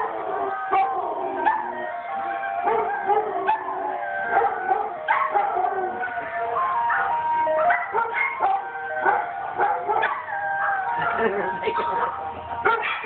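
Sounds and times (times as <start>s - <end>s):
dogs barking and howling: 0.0s - 13.0s
ice cream truck jingle: 0.0s - 13.0s.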